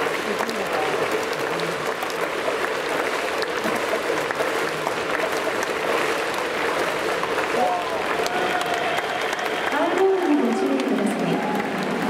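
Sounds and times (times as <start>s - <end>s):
crowd clapping: 0.0s - 12.0s
crowd hum: 0.0s - 12.0s
faint voices: 0.0s - 12.0s.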